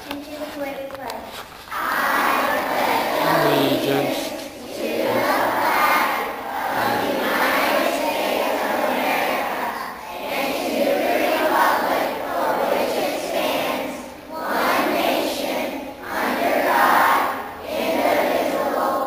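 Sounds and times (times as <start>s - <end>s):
voices reciting in unison: 1.7s - 19.0s.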